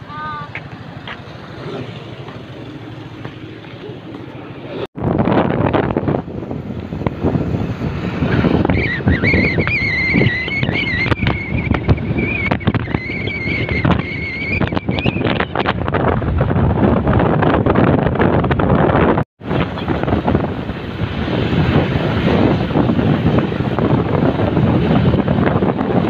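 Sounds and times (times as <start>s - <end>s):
vehicle road noise: 0.0s - 26.0s
wind buffeting microphone: 0.0s - 26.0s.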